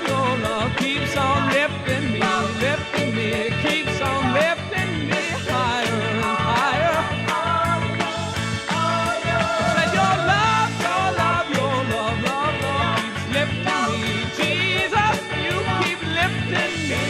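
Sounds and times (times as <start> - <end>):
upbeat rock band music: 0.0 - 17.0.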